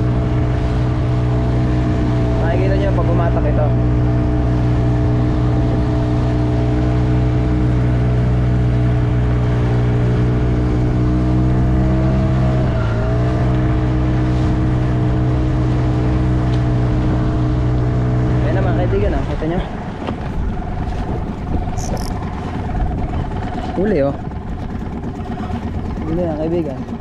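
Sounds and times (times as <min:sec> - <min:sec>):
outboard motor running: 0:00.0 - 0:27.0
water rushing past hull: 0:00.0 - 0:27.0.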